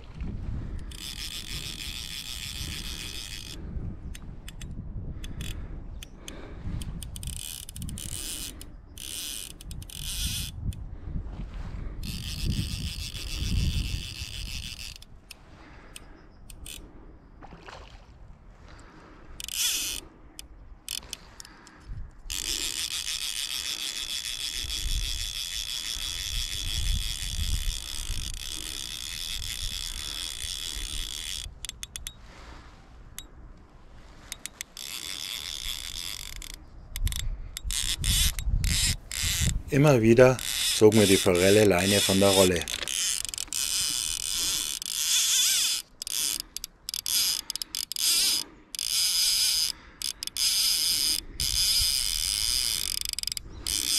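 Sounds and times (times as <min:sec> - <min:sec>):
fly reel ratcheting: 0:00.7 - 0:10.8, 0:12.0 - 0:16.9, 0:19.3 - 0:32.3, 0:34.2 - 0:53.9.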